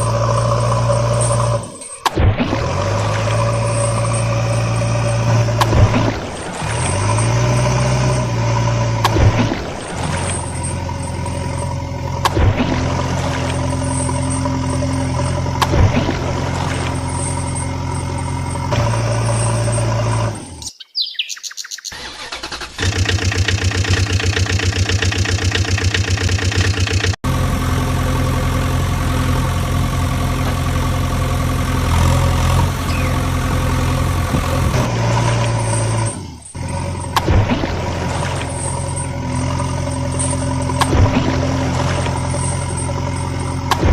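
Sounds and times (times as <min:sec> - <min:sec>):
vehicle engine running: 0:00.0 - 0:20.7, 0:22.0 - 0:43.9.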